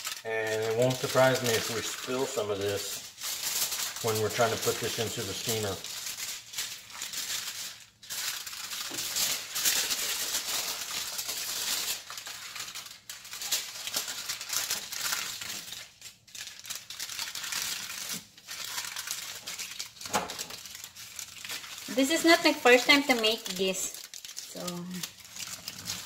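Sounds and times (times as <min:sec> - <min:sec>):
aluminum foil crinkling: 0:00.0 - 0:26.0.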